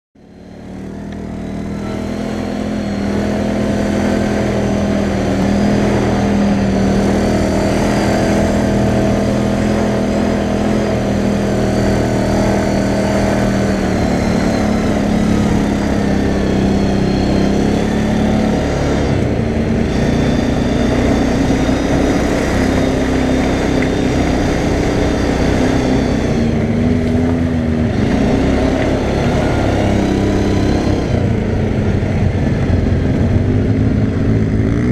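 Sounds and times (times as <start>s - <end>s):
quad bike engine running: 0.2s - 34.9s.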